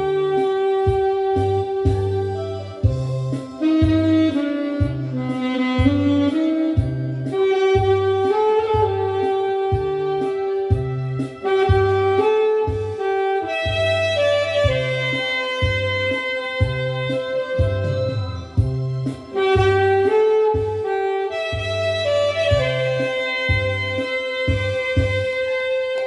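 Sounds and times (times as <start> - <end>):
backing track bass beat: 0.0 - 26.0
saxophone melody: 0.0 - 26.0.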